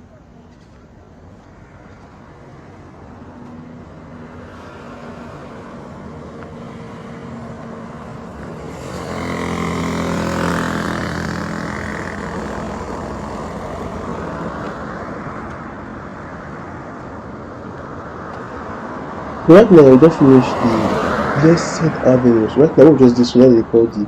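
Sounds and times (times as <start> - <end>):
traffic noise: 0.0 - 24.0
motor vehicle passing: 1.6 - 23.3.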